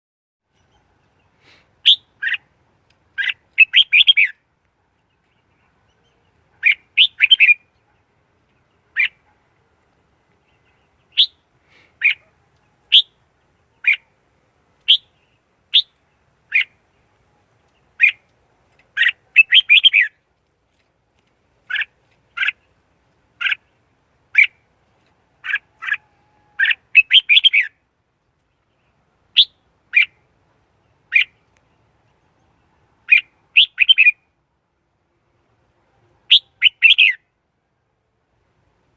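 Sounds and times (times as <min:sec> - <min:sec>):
bird chirping: 0:00.5 - 0:02.5, 0:03.1 - 0:14.2, 0:14.8 - 0:20.2, 0:21.6 - 0:34.4, 0:36.2 - 0:37.3.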